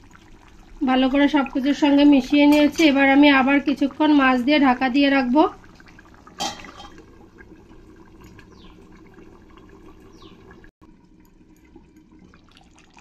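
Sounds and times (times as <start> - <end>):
curry simmering in a pan: 0.0 - 13.0.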